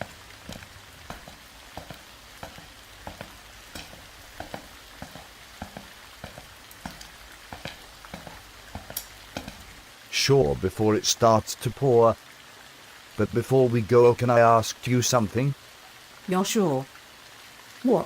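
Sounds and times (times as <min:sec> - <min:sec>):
rain hiss: 0:00.0 - 0:18.0
raindrops ticking: 0:00.0 - 0:18.0.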